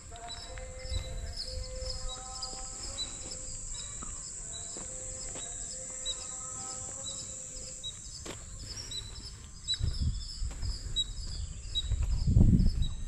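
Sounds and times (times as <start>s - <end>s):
bird chirps: 0.0s - 13.0s
high-pitched insect drone: 0.0s - 13.0s.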